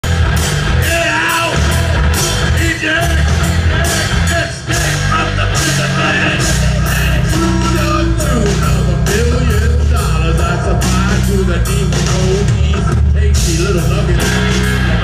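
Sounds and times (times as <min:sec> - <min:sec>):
bass guitar: 0:00.0 - 0:15.0
drums and cymbal hits: 0:00.0 - 0:15.0
electric guitar: 0:00.0 - 0:15.0
person singing: 0:00.8 - 0:15.0.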